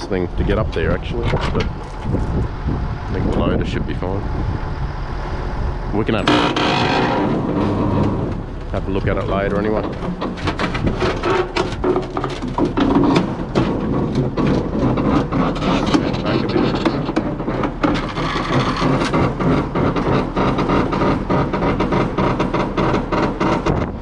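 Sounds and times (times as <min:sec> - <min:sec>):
heavy machine engine running: 0:00.0 - 0:24.0.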